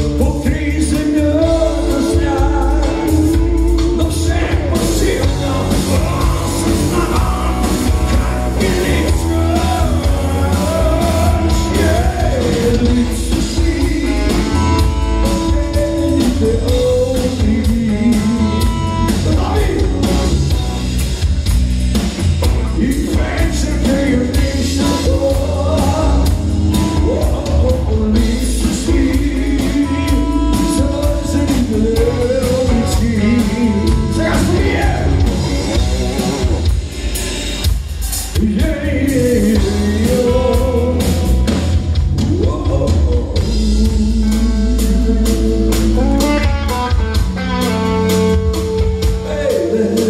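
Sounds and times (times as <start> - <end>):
man singing: 0.0 - 20.7, 22.4 - 36.6, 38.2 - 50.0
live rock band playing: 0.0 - 50.0.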